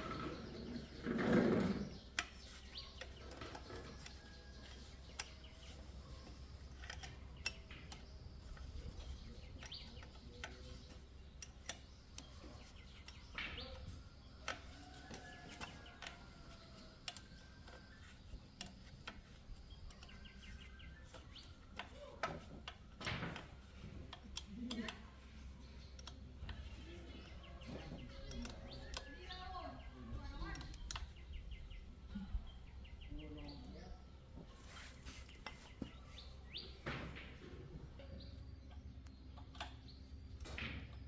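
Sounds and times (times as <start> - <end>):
faint birds chirping: 0.0 - 41.0.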